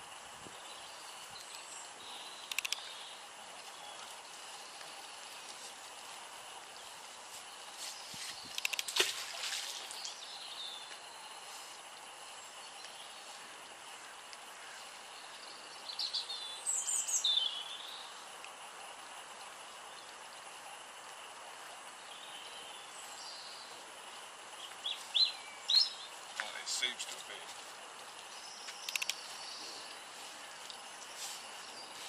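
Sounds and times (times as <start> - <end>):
outdoor background hiss: 0.0 - 32.0
small birds chirping: 0.0 - 32.0.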